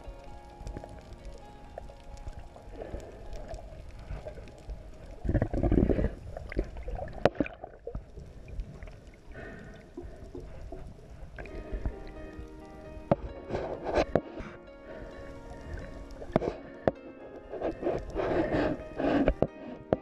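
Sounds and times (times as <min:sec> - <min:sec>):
underwater churning and gurgling: 0:00.0 - 0:19.8.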